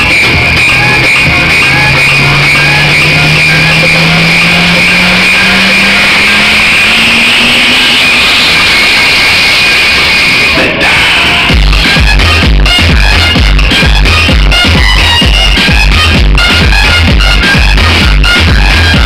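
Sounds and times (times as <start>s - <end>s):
rising synth tone: 0.0s - 16.3s
electronic dance music: 0.0s - 19.0s.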